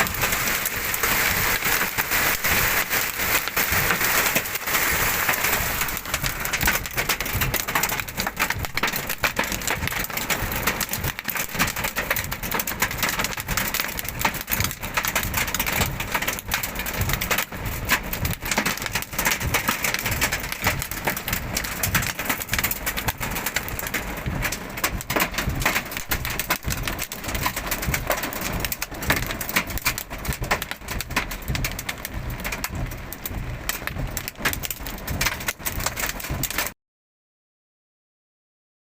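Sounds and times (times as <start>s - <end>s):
heavy rain hissing: 0.0s - 34.6s
hailstones pelting hard surfaces: 0.0s - 36.8s.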